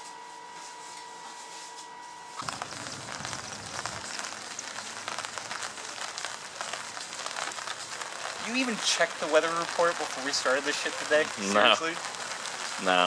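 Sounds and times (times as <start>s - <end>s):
rain pattering on a tarp: 2.4s - 13.0s.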